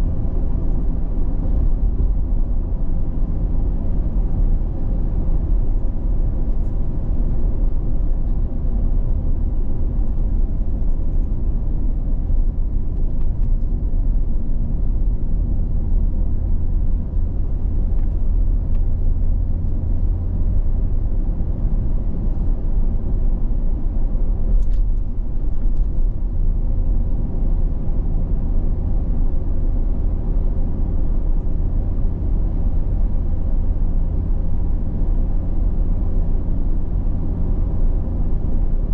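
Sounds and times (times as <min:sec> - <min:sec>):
vehicle engine and tyre rumble: 0:00.0 - 0:38.9.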